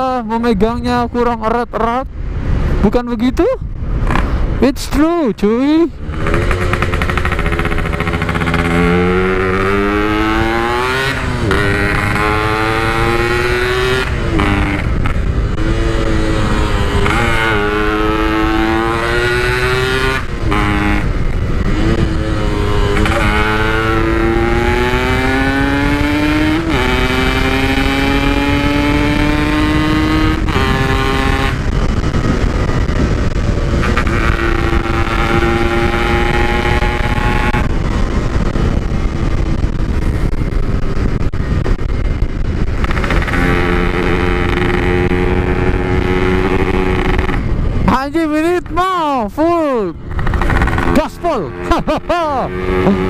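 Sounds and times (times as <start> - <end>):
wind noise: 0.0 - 53.0
two-stroke motorcycle engine revving: 5.8 - 48.0, 49.0 - 53.0.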